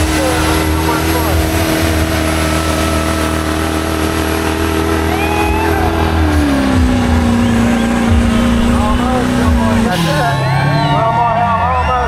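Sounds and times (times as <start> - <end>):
engine at high revs: 0.0 - 12.0.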